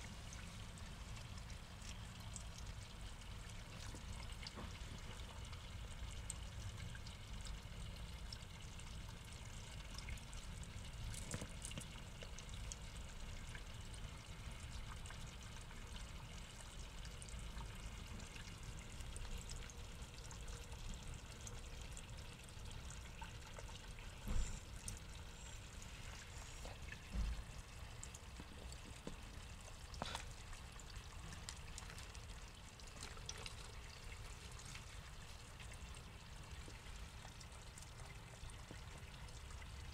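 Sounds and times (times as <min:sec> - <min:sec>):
water trickling into a pond: 0:00.0 - 0:39.9.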